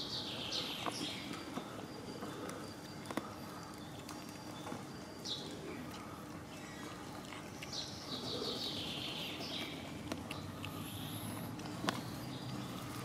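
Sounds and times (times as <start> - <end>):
cats eating wet food: 0.0 - 13.0.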